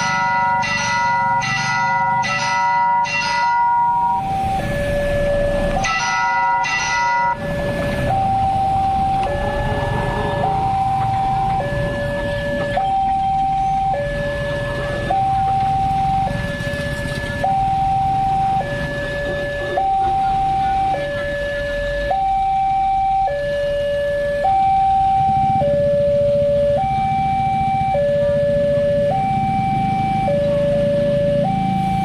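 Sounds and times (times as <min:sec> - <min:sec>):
traffic rumble: 0:00.0 - 0:32.0
two-tone crossing alarm: 0:00.0 - 0:32.0.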